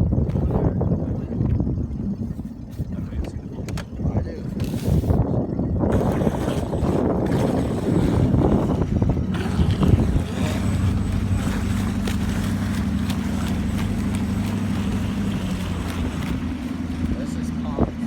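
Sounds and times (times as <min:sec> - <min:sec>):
motorboat engine humming: 0:00.0 - 0:18.0
wind and handling noise on microphone: 0:00.0 - 0:18.0.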